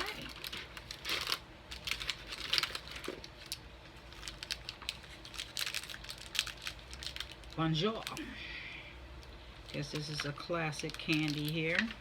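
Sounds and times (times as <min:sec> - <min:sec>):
plastic snack wrappers crinkling: 0:00.0 - 0:08.4, 0:09.2 - 0:12.0.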